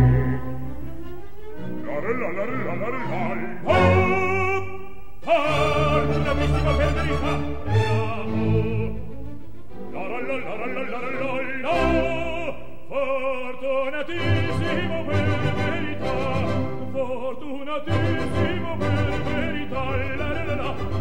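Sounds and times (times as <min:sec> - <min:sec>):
orchestral accompaniment: 0:00.0 - 0:04.6, 0:05.2 - 0:12.5, 0:14.1 - 0:17.2, 0:17.8 - 0:21.0
operatic singing with vibrato: 0:00.0 - 0:21.0.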